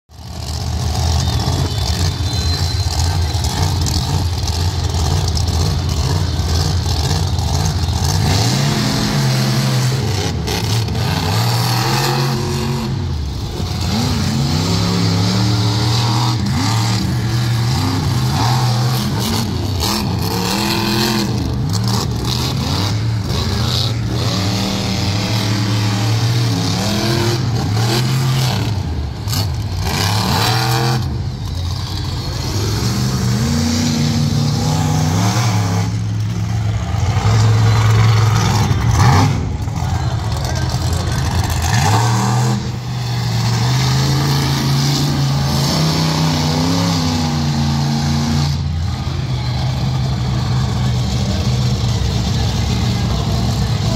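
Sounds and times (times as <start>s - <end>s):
monster truck engines revving: 0.1s - 53.9s.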